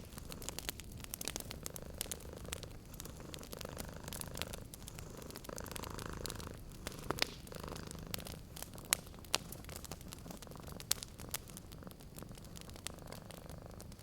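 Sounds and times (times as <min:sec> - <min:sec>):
cat purring: 0:00.0 - 0:14.0
wood fire crackling: 0:00.0 - 0:14.0.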